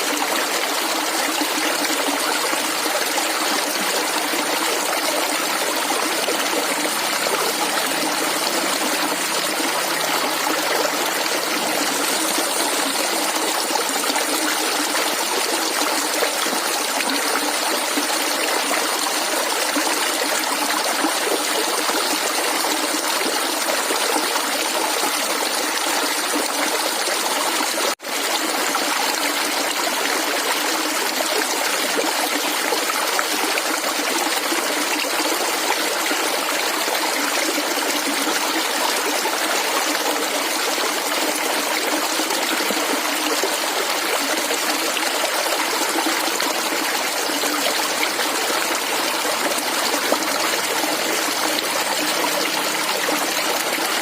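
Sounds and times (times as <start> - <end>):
water gurgling and trickling: 0.0 - 54.0.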